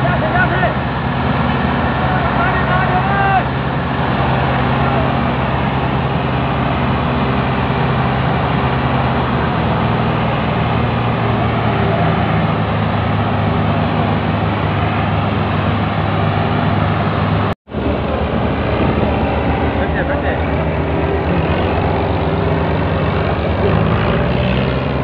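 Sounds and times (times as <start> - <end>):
tractor engines under heavy load: 0.0 - 25.0.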